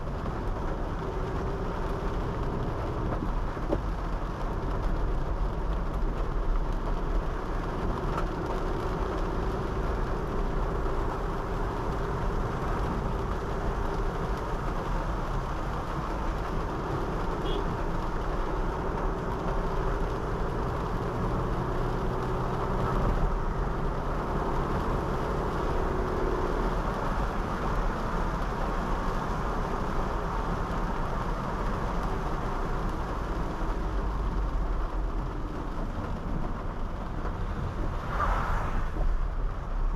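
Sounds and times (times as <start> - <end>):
tyre noise on wet road: 0.0 - 39.9.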